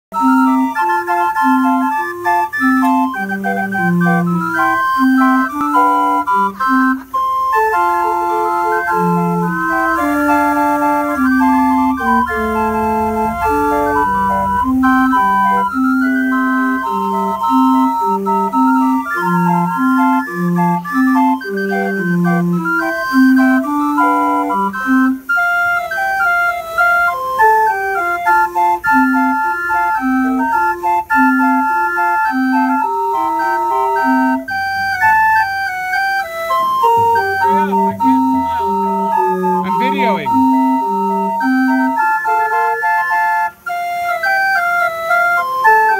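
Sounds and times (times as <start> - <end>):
calliope whistle pipes playing: 0.1 - 45.9.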